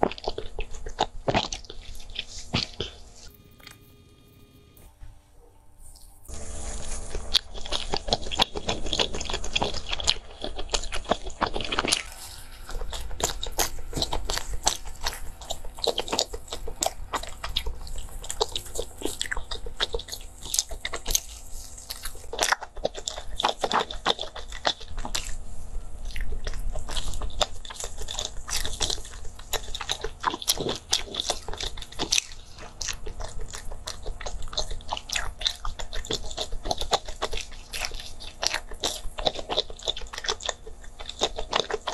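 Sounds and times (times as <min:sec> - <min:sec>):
person biting and chewing: 0:00.0 - 0:03.8, 0:06.3 - 0:41.9.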